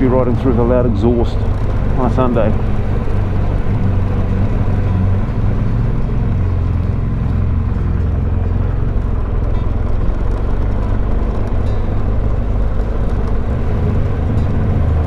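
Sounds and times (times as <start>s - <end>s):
motorcycle engine with loud exhaust: 0.0s - 15.0s.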